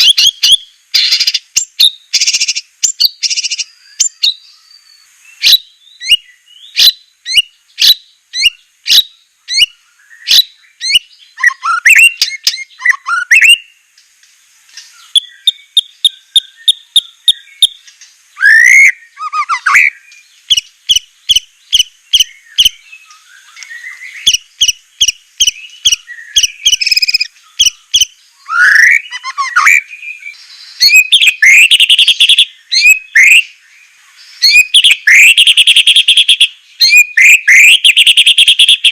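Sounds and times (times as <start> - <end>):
bird singing whistled notes: 0.0 - 13.9, 14.7 - 38.9.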